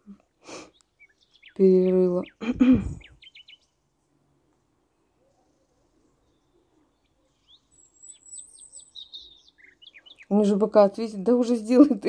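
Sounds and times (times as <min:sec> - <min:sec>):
faint bird chirps: 0:00.0 - 0:03.9, 0:04.5 - 0:10.8.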